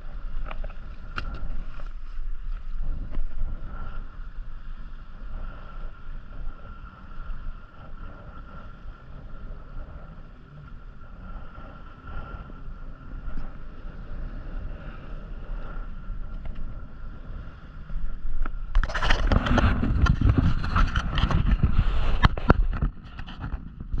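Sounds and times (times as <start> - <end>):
faint steady whine: 0.0 - 24.0
wind and water wash: 0.0 - 24.0.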